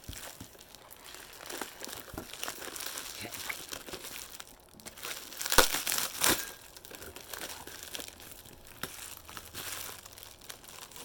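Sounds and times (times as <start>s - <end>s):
paper crinkling and tearing: 0.0s - 11.0s.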